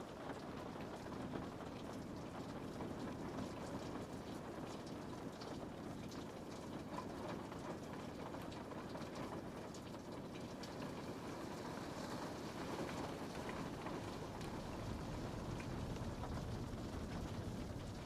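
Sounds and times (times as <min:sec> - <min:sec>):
rain on window: 0:00.0 - 0:18.0.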